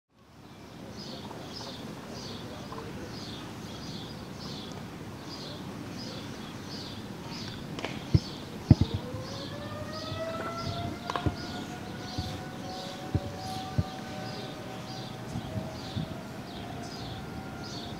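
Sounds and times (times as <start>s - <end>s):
bird chirping: 0.4s - 17.9s.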